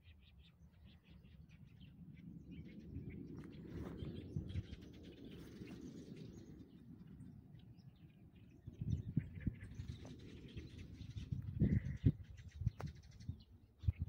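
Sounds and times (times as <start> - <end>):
small birds chirping: 0.0 - 14.0
steady low rumble: 0.6 - 14.0.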